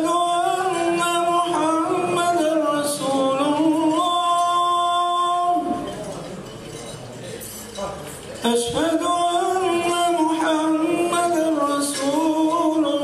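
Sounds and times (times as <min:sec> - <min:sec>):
man singing over loudspeakers: 0:00.0 - 0:06.2, 0:08.4 - 0:13.0.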